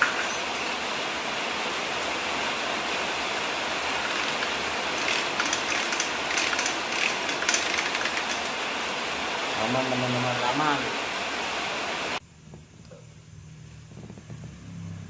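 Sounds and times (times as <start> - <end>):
steady rushing hiss: 0.0 - 14.6.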